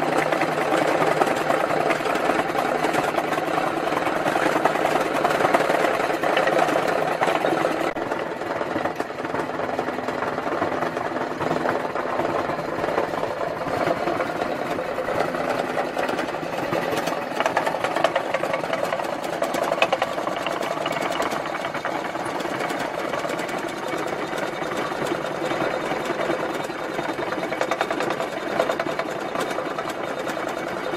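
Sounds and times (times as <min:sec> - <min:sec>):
jaw crusher rattling: 0:00.0 - 0:30.9.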